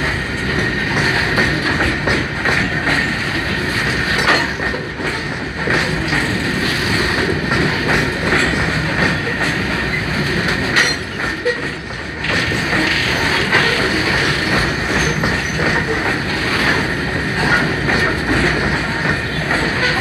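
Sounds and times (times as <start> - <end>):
wheels clacking over rail joints: 0.0 - 20.0.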